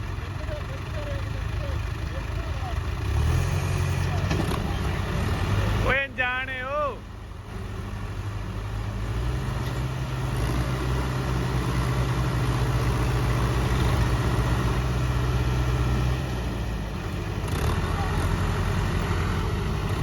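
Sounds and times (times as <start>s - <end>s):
diesel tractor engine under load: 0.0s - 20.0s.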